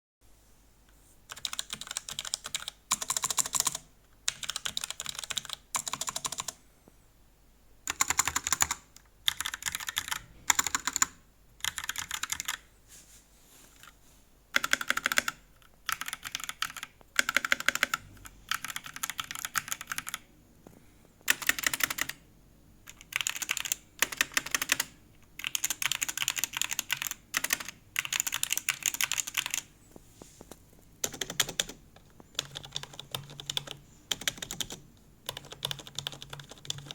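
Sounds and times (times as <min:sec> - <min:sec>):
keyboard typing: 0:01.3 - 0:06.6, 0:07.9 - 0:12.7, 0:13.8 - 0:20.3, 0:21.2 - 0:22.2, 0:22.8 - 0:29.7, 0:31.0 - 0:36.9.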